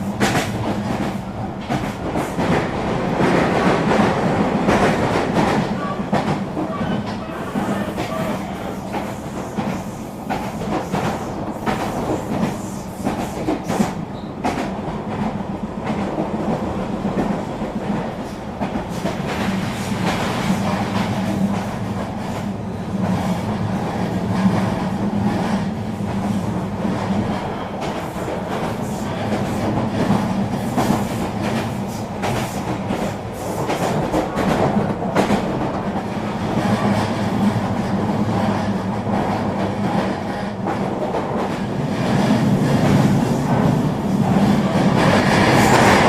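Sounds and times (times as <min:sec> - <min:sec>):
train rumbling along track: 0:00.0 - 0:46.0.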